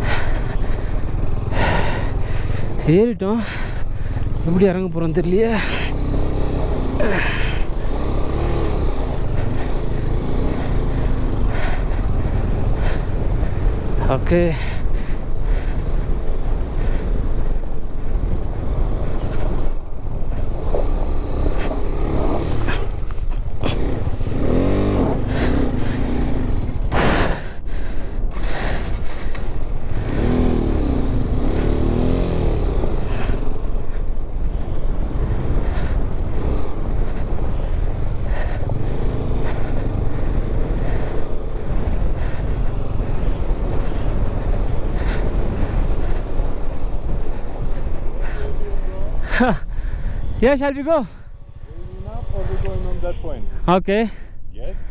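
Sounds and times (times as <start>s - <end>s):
motorcycle engine revving under load: 5.8s - 14.4s, 15.8s - 27.6s, 28.3s - 50.6s, 51.2s - 53.5s
wind rumble on microphone: 5.9s - 53.6s.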